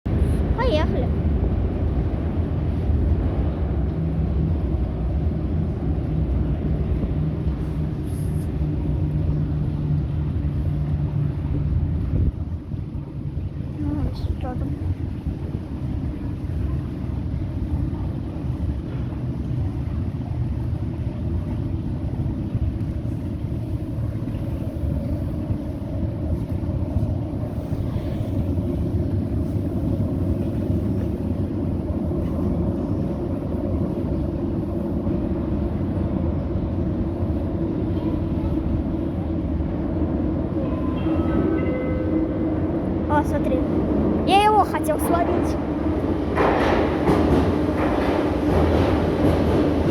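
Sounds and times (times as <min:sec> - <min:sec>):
metro train wheels rumbling: 0:00.0 - 0:49.9.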